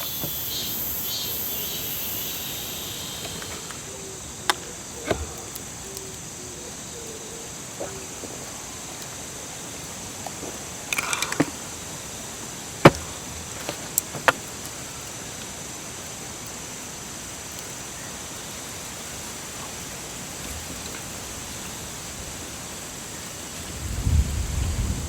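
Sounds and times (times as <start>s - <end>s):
high-pitched hiss: 0.0s - 25.0s.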